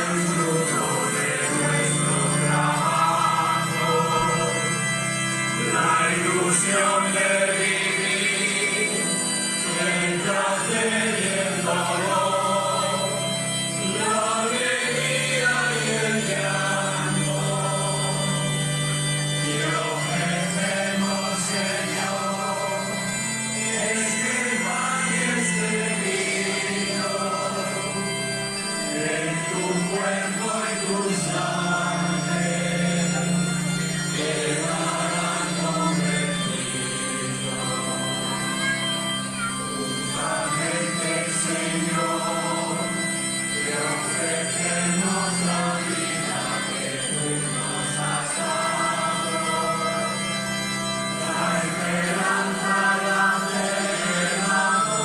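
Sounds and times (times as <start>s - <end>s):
choir and congregation singing hymn: 0.0s - 55.0s
held accompaniment notes: 0.0s - 55.0s.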